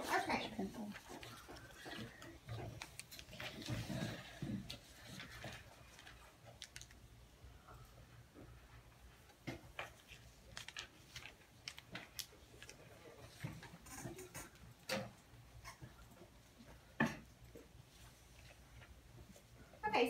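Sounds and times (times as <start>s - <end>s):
faint clicks and taps: 0.9s - 7.1s, 7.7s - 19.5s.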